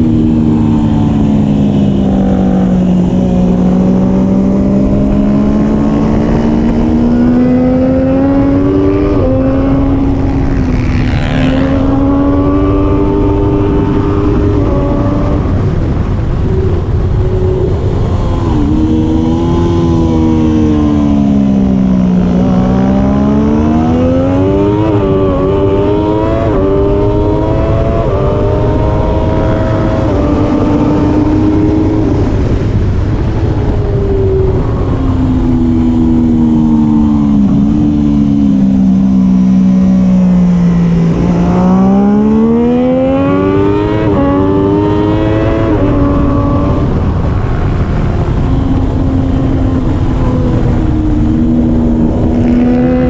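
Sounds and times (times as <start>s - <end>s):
racing motorcycle engine: 0.0s - 53.0s
steady rushing noise: 0.0s - 53.0s.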